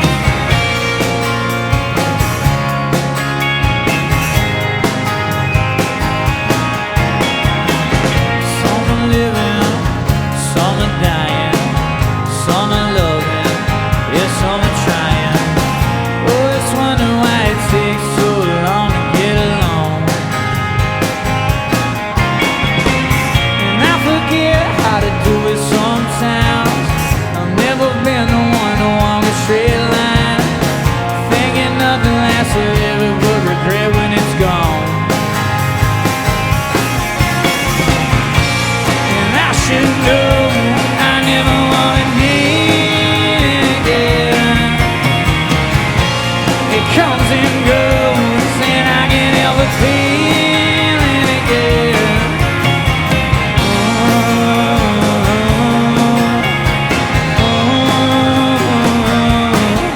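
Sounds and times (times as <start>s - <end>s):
guitar melody with bending notes: 0.0s - 59.9s
live rock band playing: 0.0s - 59.9s.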